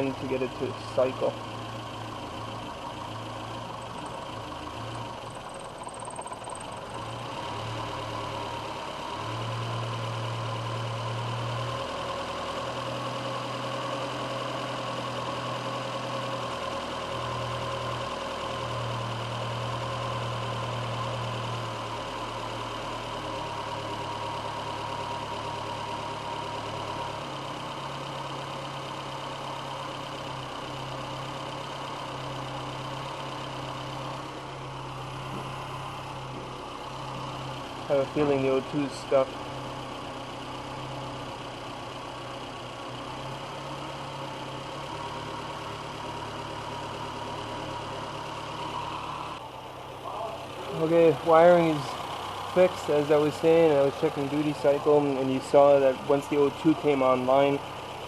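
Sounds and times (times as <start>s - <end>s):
car engine idling unevenly: 0.0s - 58.0s.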